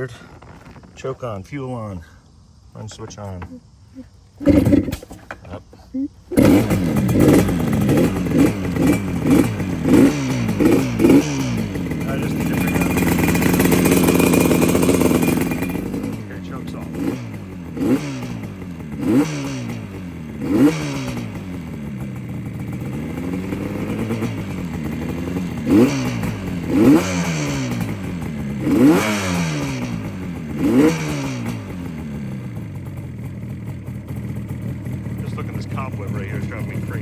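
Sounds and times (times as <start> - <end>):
motorcycle engine idling and revving: 0.0 - 37.0.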